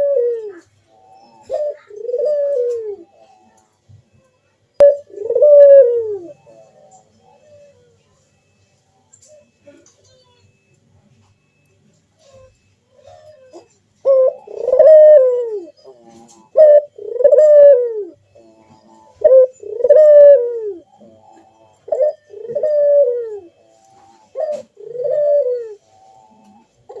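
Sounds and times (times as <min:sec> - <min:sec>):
dove cooing: 0:00.0 - 0:10.7, 0:11.3 - 0:27.0.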